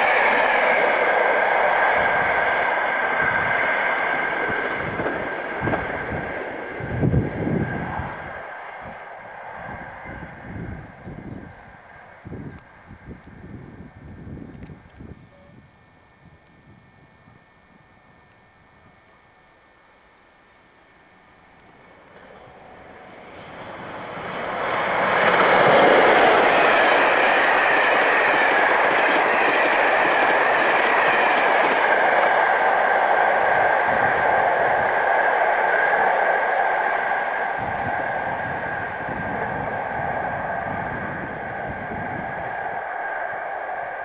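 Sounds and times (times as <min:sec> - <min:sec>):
train passing at speed: 0:00.0 - 0:14.7, 0:19.3 - 0:44.0
steady high whine: 0:00.0 - 0:44.0.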